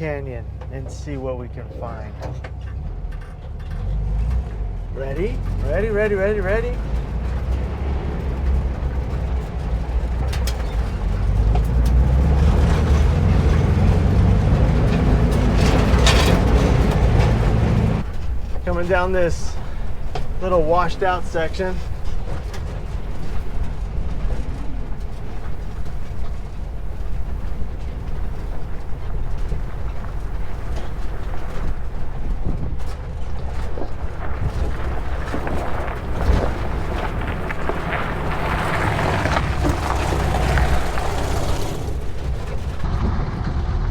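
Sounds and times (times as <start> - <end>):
engine and road rumble: 0.0 - 43.9
body knocks and rattles: 6.8 - 42.9.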